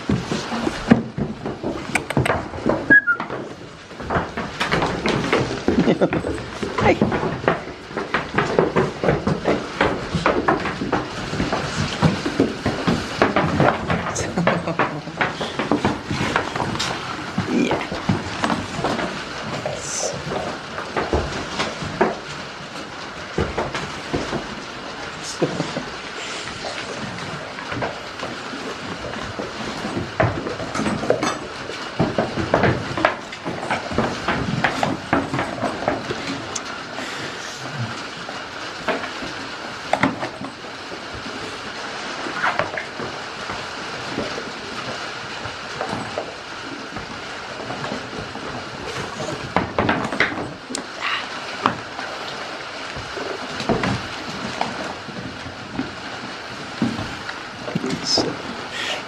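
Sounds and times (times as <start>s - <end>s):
goats knocking rubber bucket: 0.0s - 37.1s, 37.8s - 59.0s.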